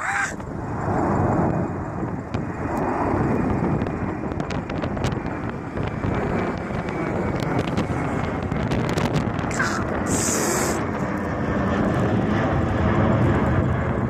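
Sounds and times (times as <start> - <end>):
jet airliners: 0.0 - 14.0
wind buffeting microphone: 0.0 - 14.0.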